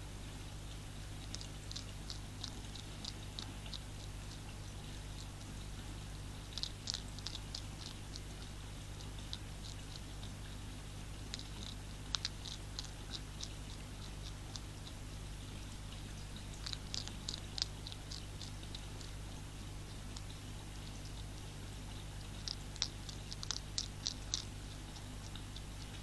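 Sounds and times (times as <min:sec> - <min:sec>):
steady low hum: 0:00.0 - 0:26.0
hedgehog crunching food pellets: 0:00.3 - 0:26.0.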